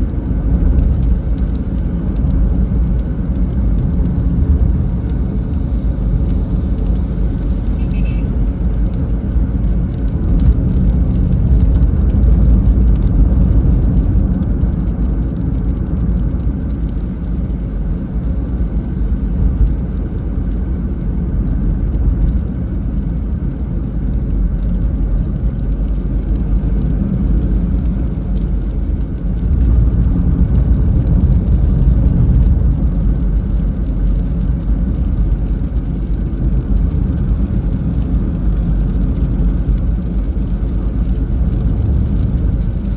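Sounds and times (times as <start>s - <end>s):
hiss of tyres and rain: 0.0s - 42.9s
road and engine rumble: 0.0s - 42.9s.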